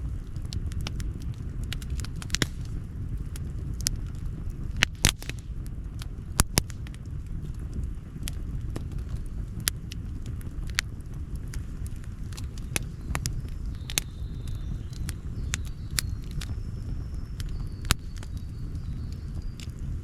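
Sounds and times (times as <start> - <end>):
campfire crackling and popping: 0.0 - 20.0
steady low rumble: 0.0 - 20.0.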